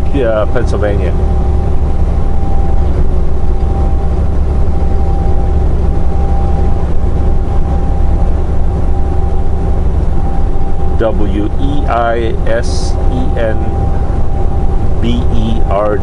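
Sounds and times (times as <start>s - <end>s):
diesel engine and road drone: 0.0s - 16.0s
faint steady whine: 0.0s - 16.0s.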